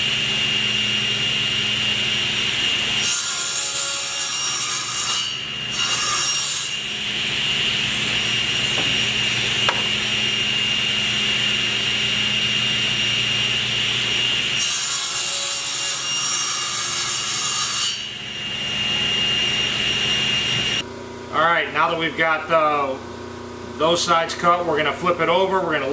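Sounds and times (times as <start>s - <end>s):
table saw whining: 0.0s - 20.8s.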